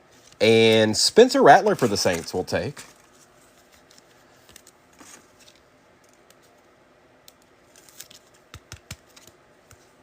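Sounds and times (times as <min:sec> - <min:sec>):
cards and wrappers rustling: 0:00.1 - 0:06.5, 0:07.6 - 0:09.9.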